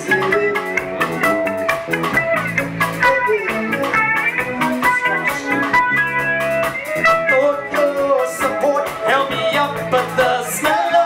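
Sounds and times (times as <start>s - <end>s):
instrumental band music: 0.0s - 11.0s.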